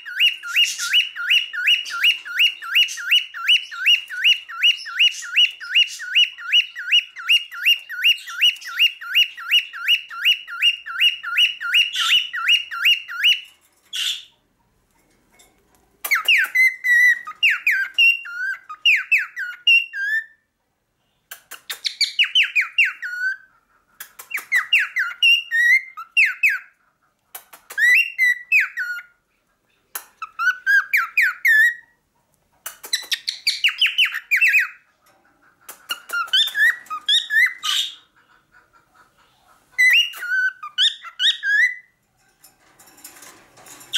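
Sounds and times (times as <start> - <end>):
cockatiel chirping: 0.0 - 14.4, 16.0 - 20.4, 21.3 - 26.8, 27.4 - 29.2, 29.9 - 31.9, 32.6 - 42.0.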